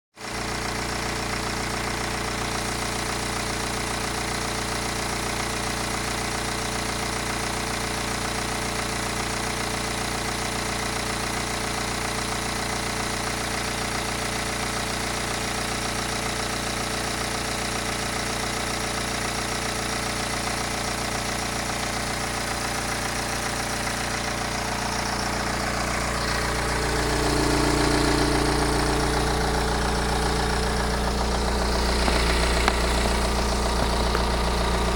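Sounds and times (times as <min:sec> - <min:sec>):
diesel engine idling: 0:00.3 - 0:34.9.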